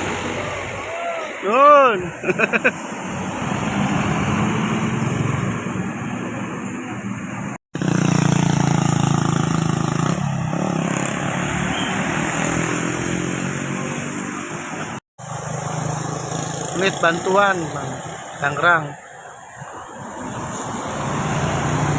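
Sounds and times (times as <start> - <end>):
bus engine passing: 0.0 - 18.4, 19.0 - 21.9
traffic and road noise: 0.0 - 21.9.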